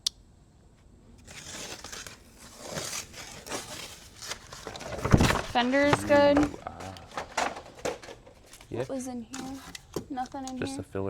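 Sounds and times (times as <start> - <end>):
packaging rustling and crinkling: 1.2 - 10.6.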